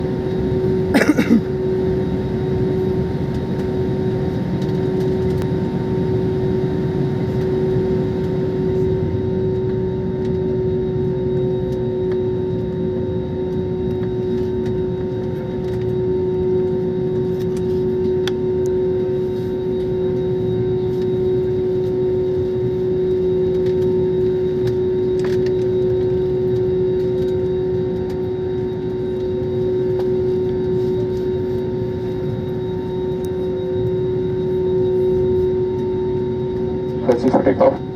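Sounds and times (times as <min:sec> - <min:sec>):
jet engines running at low power: 0:00.0 - 0:37.9.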